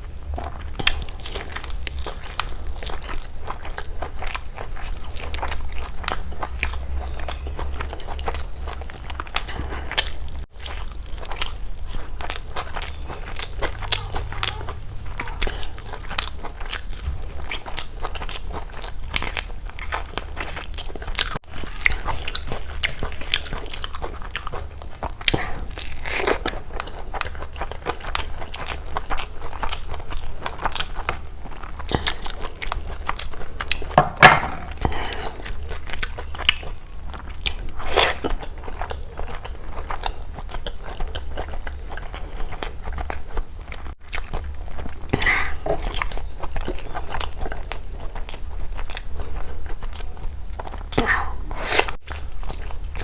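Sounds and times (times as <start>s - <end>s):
chewing with wet mouth clicks: 0.4s - 34.0s, 34.7s - 51.0s.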